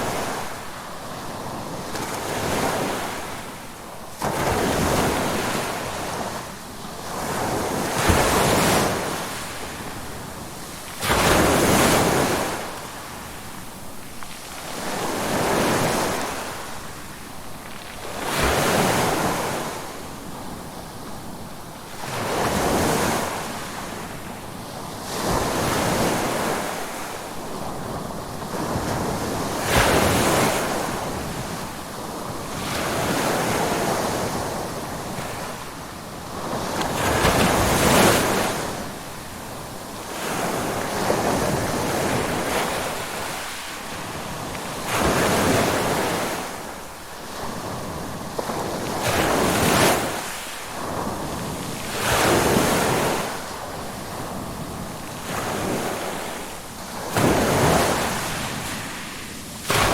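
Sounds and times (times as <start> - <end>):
ocean waves breaking on shore: 0.0 - 59.9
wind: 0.0 - 59.9.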